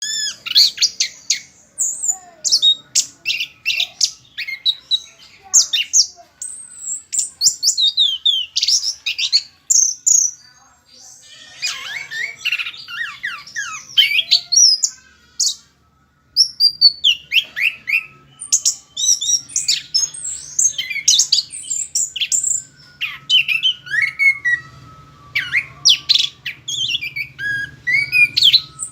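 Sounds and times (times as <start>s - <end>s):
thrush singing whistles and trills: 0.0s - 10.5s, 11.2s - 28.9s.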